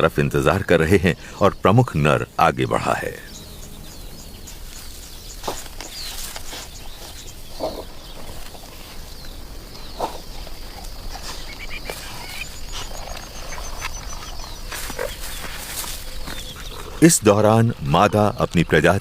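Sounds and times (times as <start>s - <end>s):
bird chirps: 0.0s - 19.0s
low animal calls: 2.2s - 18.5s.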